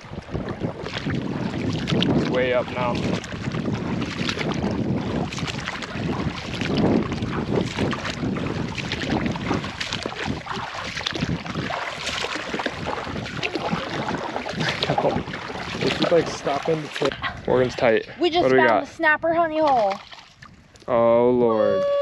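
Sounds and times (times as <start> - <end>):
water splashing around kayak: 0.0 - 20.8
wind buffeting microphone: 0.0 - 22.0.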